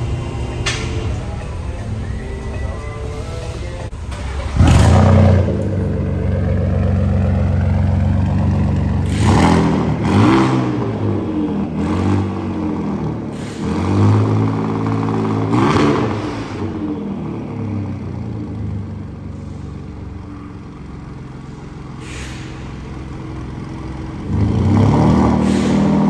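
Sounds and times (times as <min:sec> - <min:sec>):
engine revving: 0:03.9 - 0:26.0.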